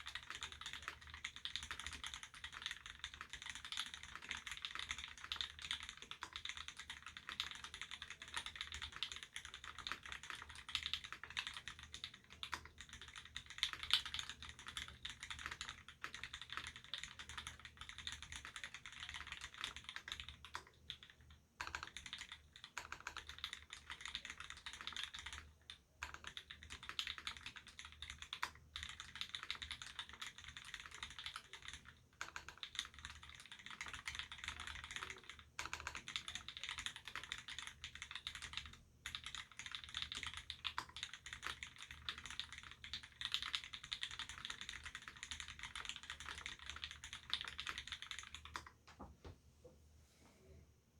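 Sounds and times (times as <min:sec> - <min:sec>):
fast typing on mechanical keyboard: 0:00.0 - 0:48.8.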